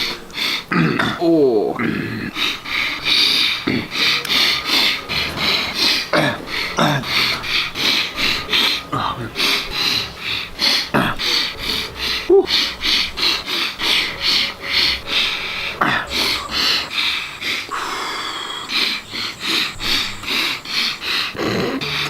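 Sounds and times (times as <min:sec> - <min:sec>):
man chewing and sniffing: 0:00.0 - 0:22.0.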